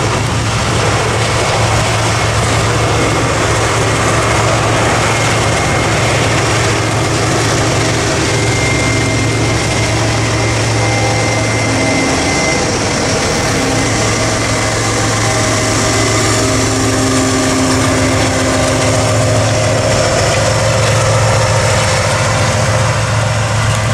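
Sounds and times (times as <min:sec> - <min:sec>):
humming tones: 0:00.0 - 0:23.9
locomotive diesel engines droning: 0:00.0 - 0:23.9
train rumble: 0:00.0 - 0:23.9.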